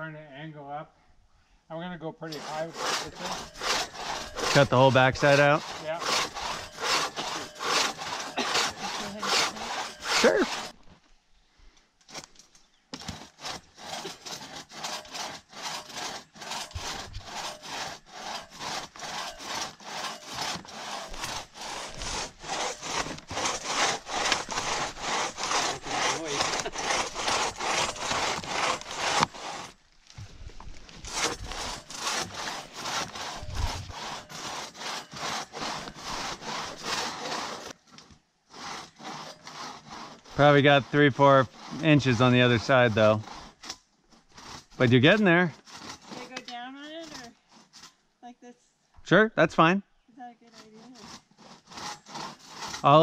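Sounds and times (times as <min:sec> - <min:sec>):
saw rasping through wood: 0:02.2 - 0:10.8, 0:12.9 - 0:29.8, 0:30.9 - 0:48.0, 0:50.4 - 0:53.0.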